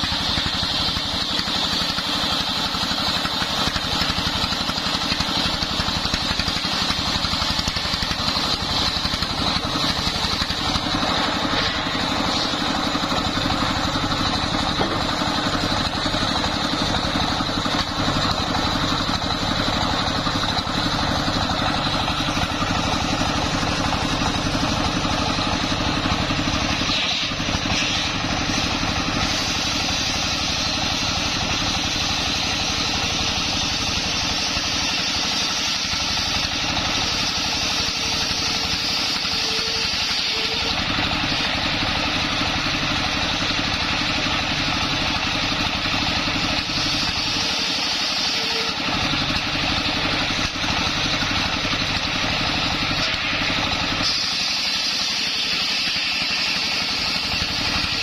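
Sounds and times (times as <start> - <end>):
circular saw cutting log: 0.0 - 58.0
diesel engine running: 0.0 - 58.0.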